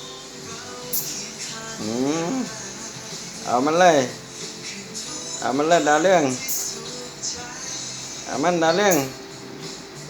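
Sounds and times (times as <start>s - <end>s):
plucked acoustic guitar music: 0.0s - 10.0s.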